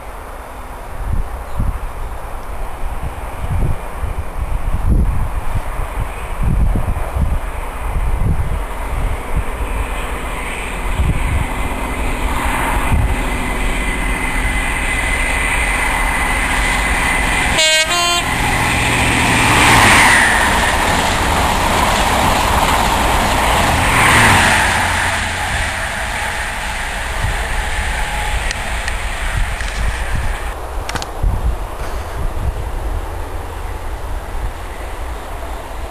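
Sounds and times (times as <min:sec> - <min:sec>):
train rushing past: 0:01.3 - 0:35.9.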